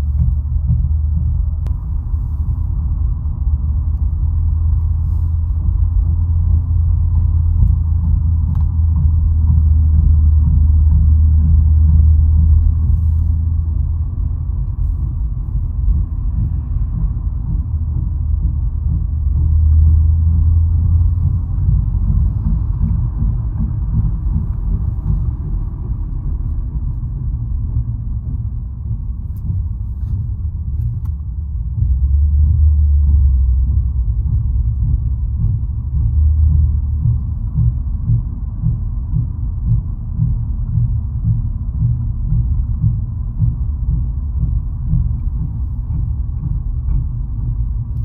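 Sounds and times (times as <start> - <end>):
truck low rumble: 0.0 - 48.0.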